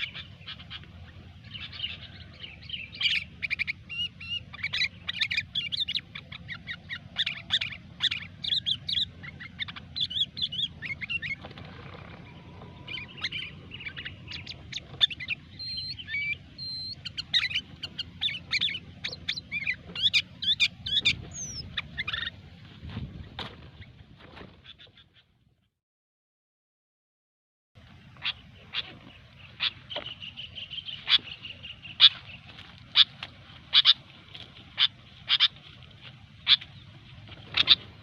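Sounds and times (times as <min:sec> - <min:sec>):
birds chirping and whistling: 0:00.0 - 0:24.0, 0:28.0 - 0:38.0.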